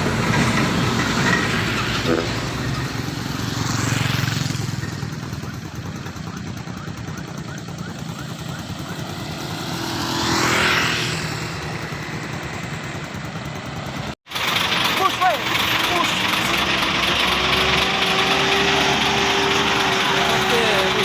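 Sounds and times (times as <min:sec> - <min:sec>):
vehicle passing: 0:00.0 - 0:06.4, 0:07.5 - 0:14.2, 0:15.4 - 0:21.0
engine running: 0:00.0 - 0:21.0.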